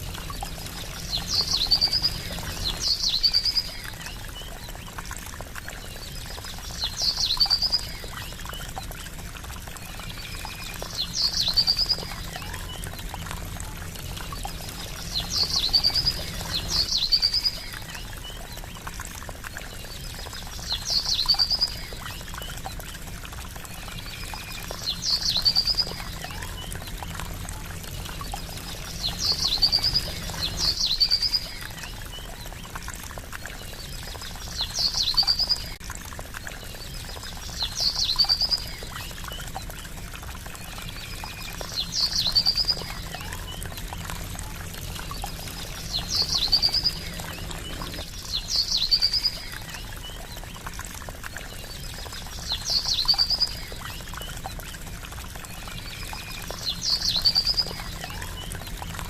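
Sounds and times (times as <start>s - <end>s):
trickling water: 0.0s - 59.0s.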